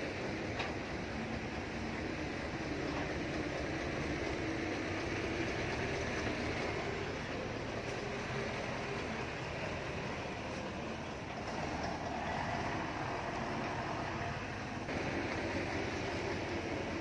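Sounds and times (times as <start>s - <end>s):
diesel construction machinery rumbling: 0.0s - 17.0s.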